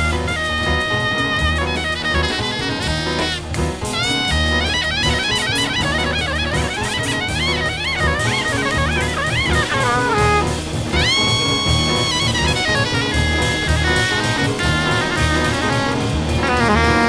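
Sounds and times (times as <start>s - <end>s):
bass: 0.0s - 17.0s
drum kit: 0.0s - 17.0s
piano: 0.0s - 17.0s
saxophone runs: 0.0s - 17.0s.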